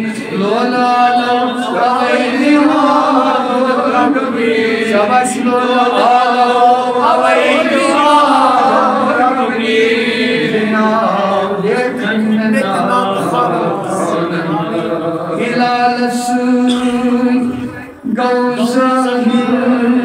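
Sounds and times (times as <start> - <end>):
elderly man chanting: 0.0 - 20.0.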